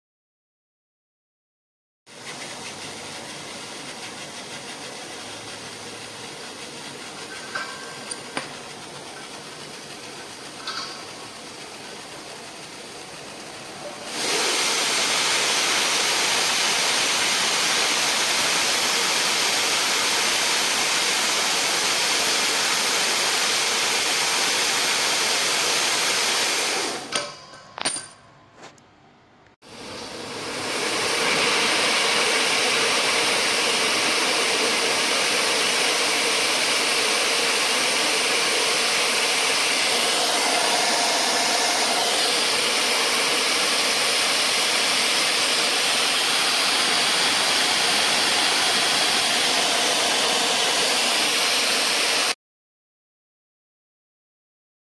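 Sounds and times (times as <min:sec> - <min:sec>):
compressed gas hissing: 0:02.1 - 0:27.3, 0:29.7 - 0:52.3.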